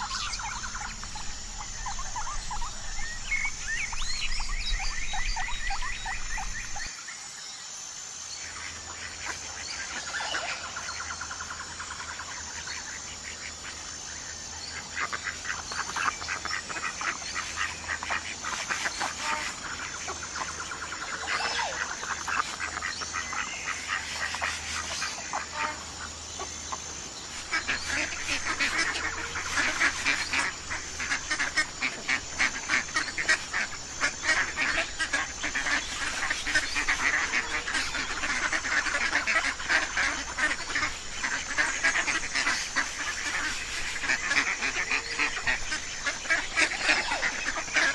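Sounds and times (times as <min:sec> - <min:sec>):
geese and ducks honking and quacking: 0:00.0 - 0:06.9, 0:08.6 - 0:47.9.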